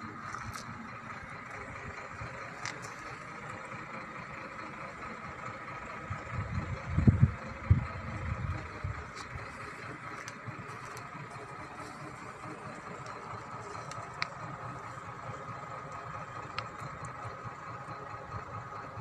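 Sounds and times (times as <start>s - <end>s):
distant road traffic hum: 0.0s - 19.0s.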